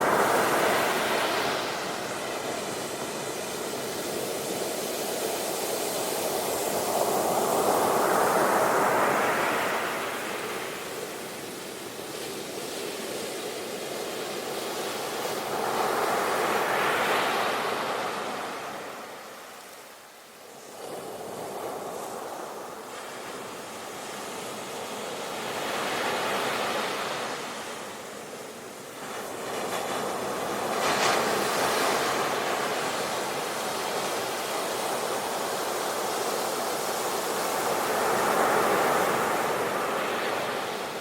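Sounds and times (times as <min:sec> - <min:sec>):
ocean waves breaking on beach: 0:00.0 - 0:41.0.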